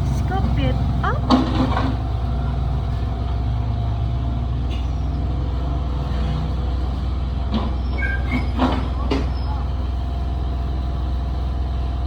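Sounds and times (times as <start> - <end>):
diesel machinery engines running: 0.0 - 12.0.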